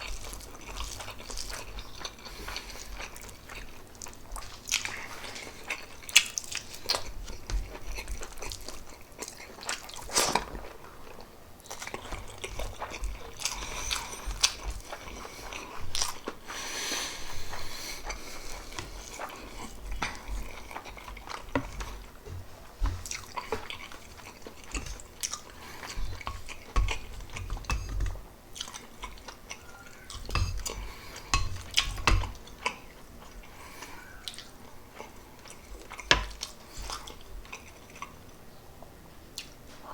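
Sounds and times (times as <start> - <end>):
close chewing and biting: 0.0 - 38.4.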